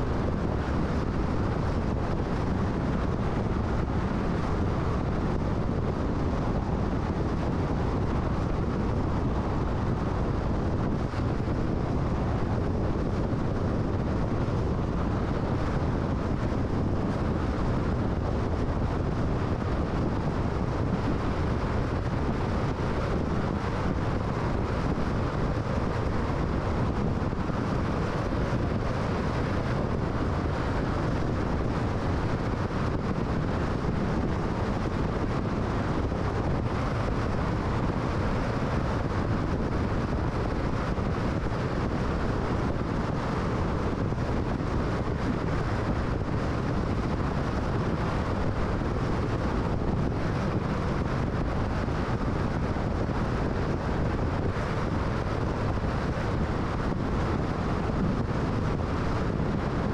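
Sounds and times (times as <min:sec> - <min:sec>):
tyre road noise: 0:00.0 - 0:59.9
wind noise: 0:00.0 - 0:59.9.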